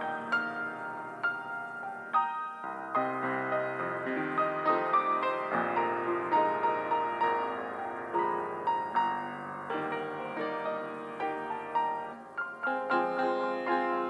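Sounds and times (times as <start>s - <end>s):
slow piano piece: 0.0s - 14.0s.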